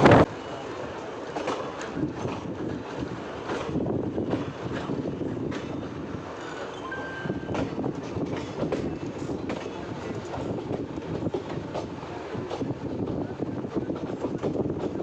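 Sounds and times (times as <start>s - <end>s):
train rumbling on track: 0.0s - 15.0s
wheels clicking over rail joints: 1.2s - 15.0s.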